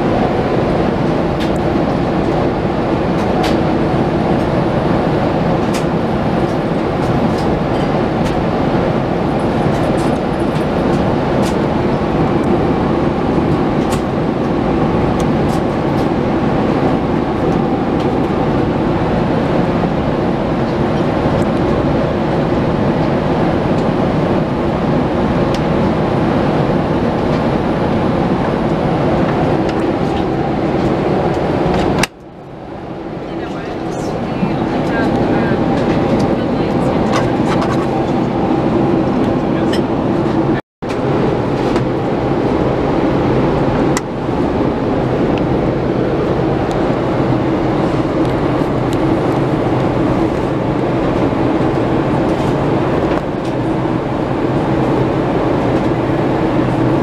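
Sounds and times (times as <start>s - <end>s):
airliner cabin noise: 0.0s - 57.0s.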